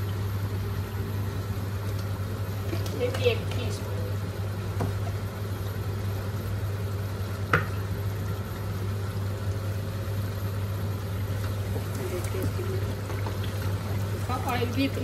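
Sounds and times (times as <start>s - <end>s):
curry sizzling and bubbling: 0.0s - 15.0s
steady low hum: 0.0s - 15.0s.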